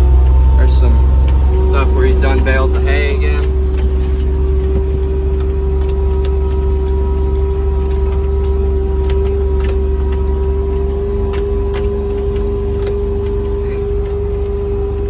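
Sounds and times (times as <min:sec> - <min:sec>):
small vehicle motor running: 0:00.0 - 0:15.0.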